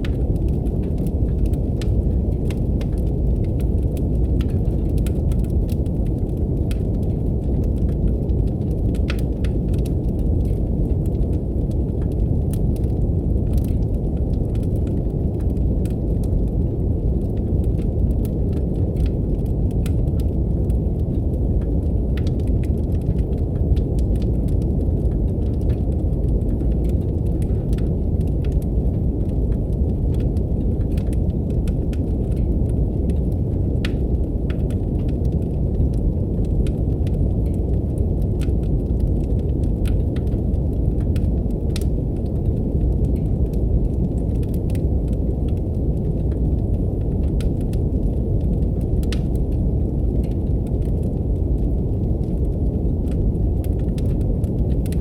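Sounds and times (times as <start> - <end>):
steady brown noise hiss: 0.0 - 55.0
wood fire crackling: 0.0 - 55.0.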